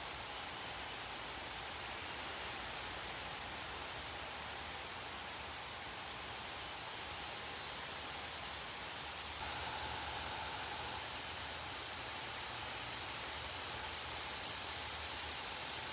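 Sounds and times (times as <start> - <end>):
water spray hissing on plants: 0.0 - 15.9.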